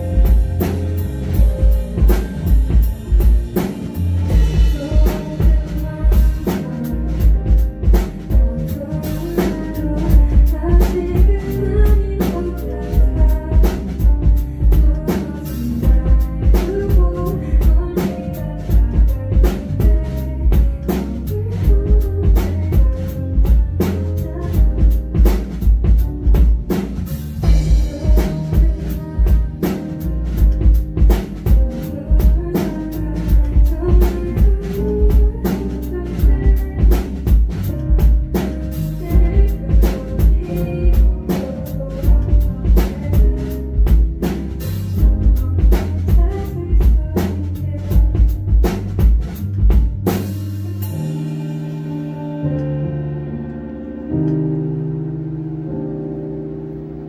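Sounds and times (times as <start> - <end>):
drum kit beat: 0.0 - 52.6
live band playing: 0.0 - 57.0.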